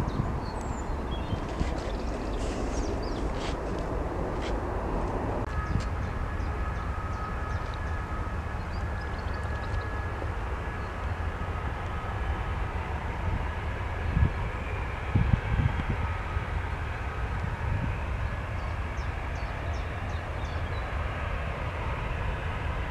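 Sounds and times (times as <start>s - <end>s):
jet engines rumbling and whining: 0.0s - 22.9s.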